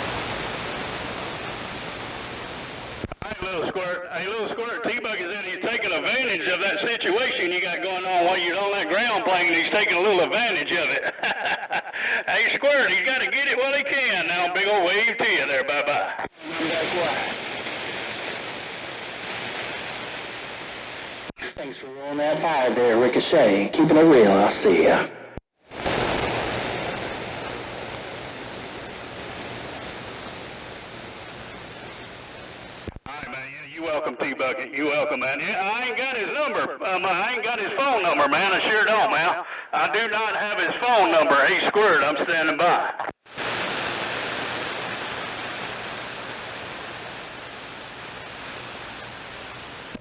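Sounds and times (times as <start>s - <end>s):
radio static hiss: 0.0s - 21.7s, 25.6s - 50.0s.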